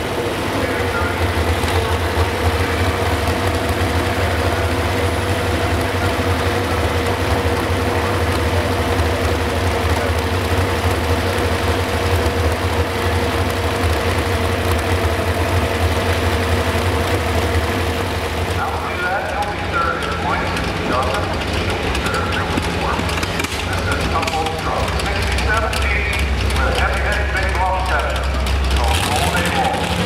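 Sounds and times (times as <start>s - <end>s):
truck engine idling loudly: 0.0s - 30.0s.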